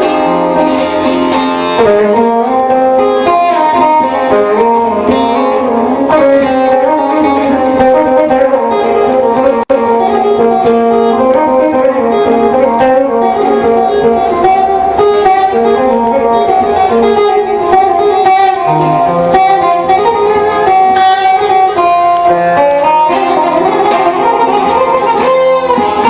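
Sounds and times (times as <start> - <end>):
plucked string instruments melody: 0.0 - 26.0.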